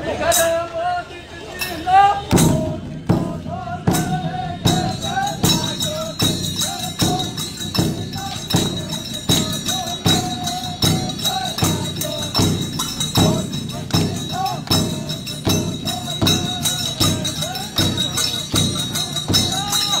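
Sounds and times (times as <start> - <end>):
sharp percussion strokes: 1.6 - 20.0.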